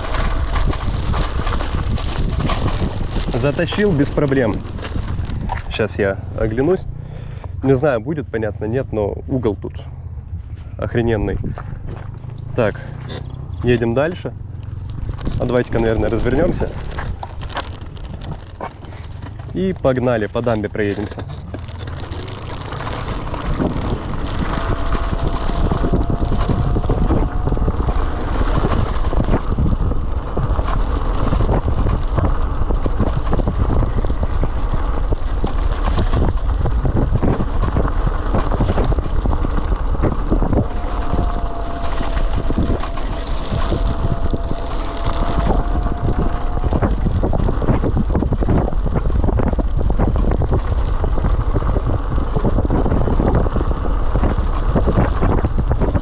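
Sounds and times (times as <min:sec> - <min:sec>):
bike knocks and rattles: 0:00.0 - 0:05.9, 0:11.5 - 0:56.0
wind buffeting microphone: 0:00.0 - 0:56.0.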